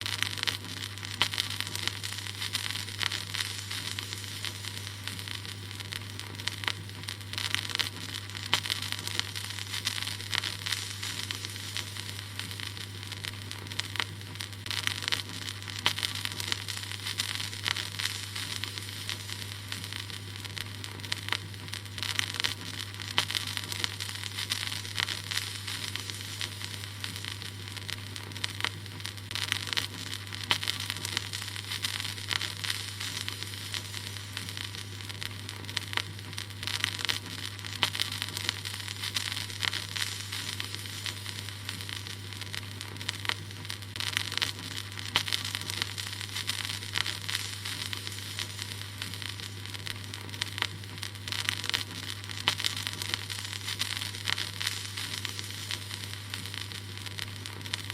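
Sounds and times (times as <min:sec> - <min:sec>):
vinyl crackles and pops: 0:00.0 - 0:57.9
vinyl hiss: 0:00.0 - 0:57.9.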